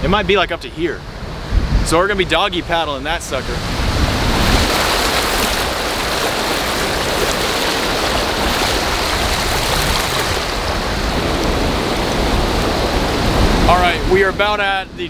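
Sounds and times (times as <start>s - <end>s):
stream water rushing: 0.7s - 15.0s.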